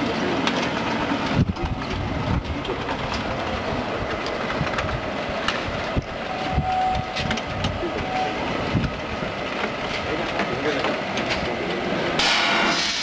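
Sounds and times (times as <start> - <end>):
fryer conveyor rumbling: 0.0 - 13.0.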